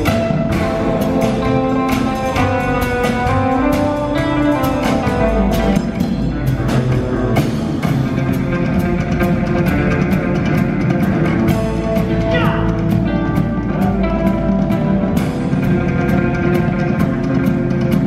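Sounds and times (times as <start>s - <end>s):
drum kit beat: 0.0s - 18.0s
electric guitar: 0.0s - 18.0s.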